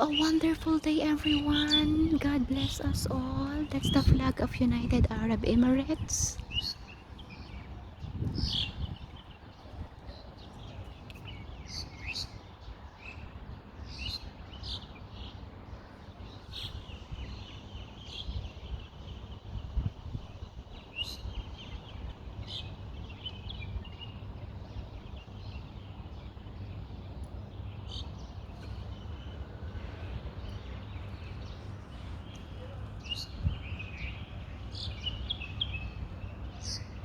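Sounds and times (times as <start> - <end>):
wind rumble on microphone: 0.0 - 14.9, 15.6 - 37.0
birds chirping: 0.0 - 37.0.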